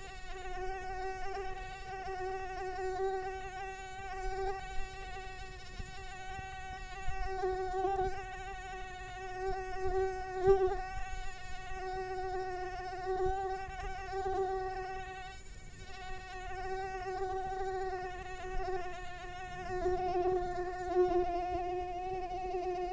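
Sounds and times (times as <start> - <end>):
mosquito wingbeat whine: 0.0 - 22.9.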